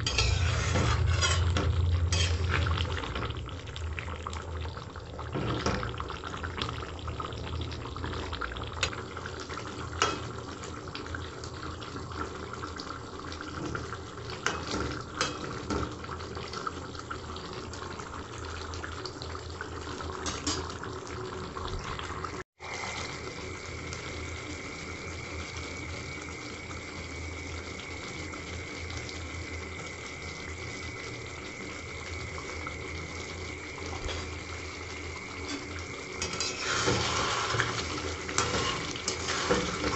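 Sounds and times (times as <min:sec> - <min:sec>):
curry simmering and bubbling: 0:00.0 - 0:39.9.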